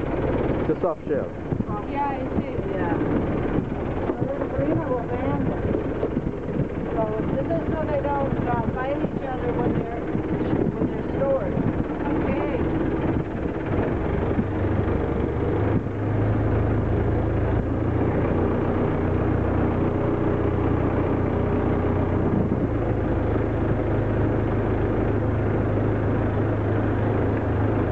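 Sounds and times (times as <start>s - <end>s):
boat engine droning: 0.0s - 27.9s.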